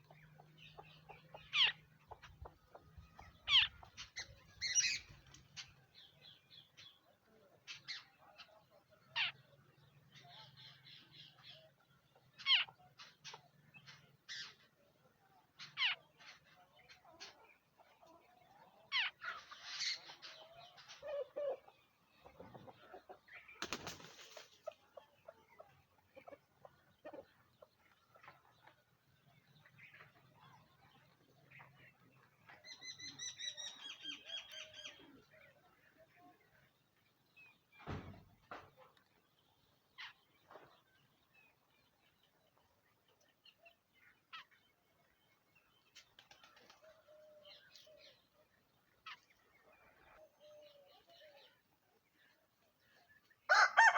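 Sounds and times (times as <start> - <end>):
birds calling with downsweeping notes: 0.0 - 53.9.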